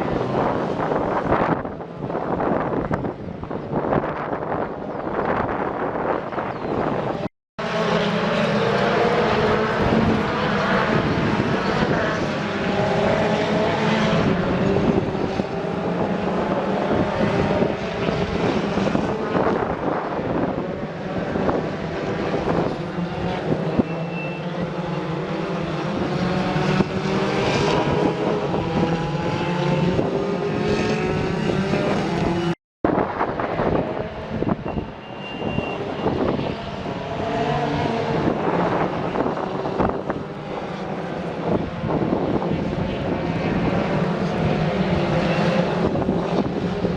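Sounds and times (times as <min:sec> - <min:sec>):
racing cars passing: 0:00.0 - 0:46.9.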